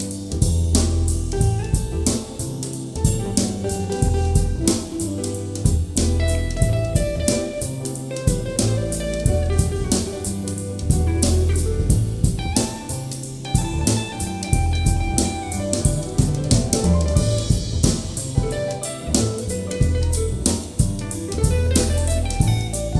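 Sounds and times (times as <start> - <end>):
bass line: 0.0 - 22.9
drum kit beat: 0.0 - 22.9
guitar: 0.0 - 22.9.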